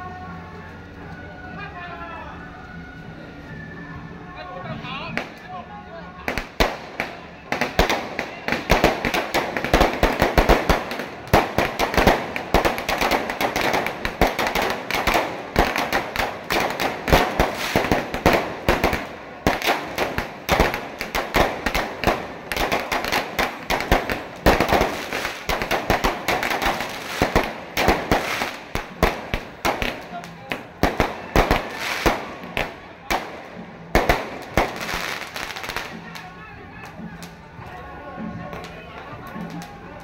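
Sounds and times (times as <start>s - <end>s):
firecrackers crackling: 4.7s - 40.0s.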